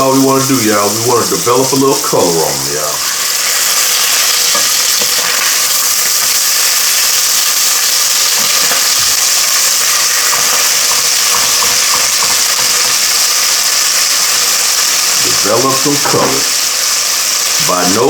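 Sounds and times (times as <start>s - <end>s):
chicken sizzling in hot oil: 0.0s - 18.0s
fat spattering and crackling: 0.0s - 18.0s.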